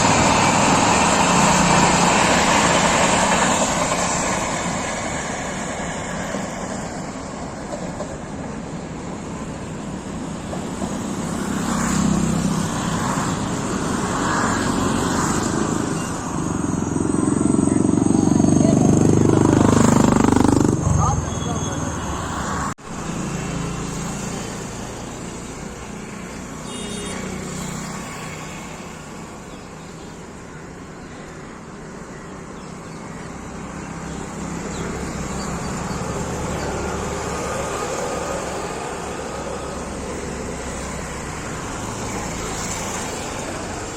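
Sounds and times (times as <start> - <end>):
moving vehicle running noise: 0.0 - 43.9.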